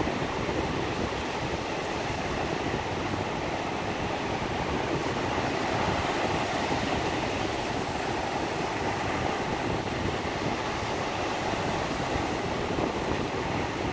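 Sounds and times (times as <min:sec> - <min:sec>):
small waves breaking on beach: 0:00.0 - 0:13.9
wind rumbling on microphone: 0:00.0 - 0:13.9.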